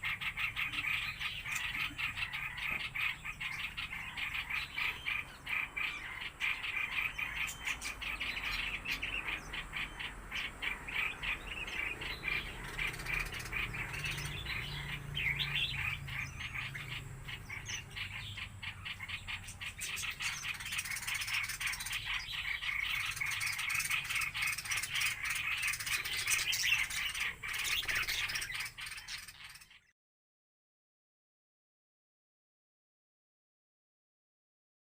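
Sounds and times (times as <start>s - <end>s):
small birds chattering and chirping: 0.0s - 30.0s.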